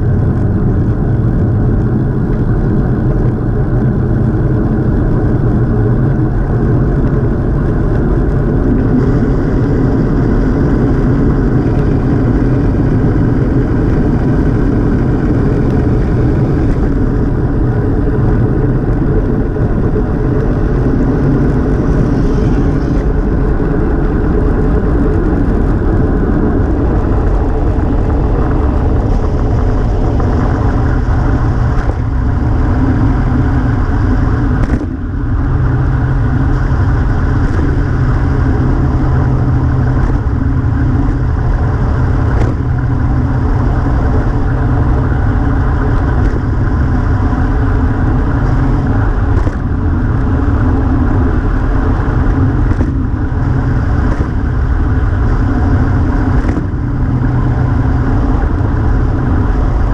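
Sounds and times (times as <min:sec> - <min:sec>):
tyres humming on asphalt: 0:00.0 - 0:59.9
wind rushing over microphone: 0:00.0 - 0:59.9.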